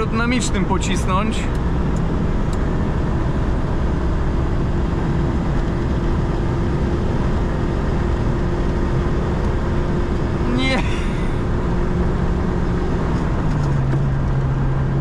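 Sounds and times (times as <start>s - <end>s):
car engine under heavy throttle: 0.0s - 15.0s
wind and road noise: 0.0s - 15.0s.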